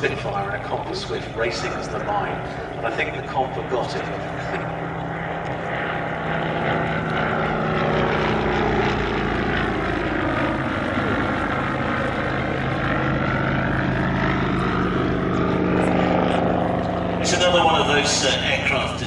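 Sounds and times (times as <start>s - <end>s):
light aircraft propeller engine: 0.0s - 19.0s.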